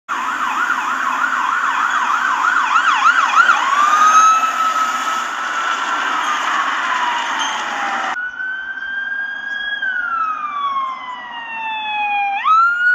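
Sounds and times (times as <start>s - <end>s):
police siren yelp and wail: 0.1s - 12.9s.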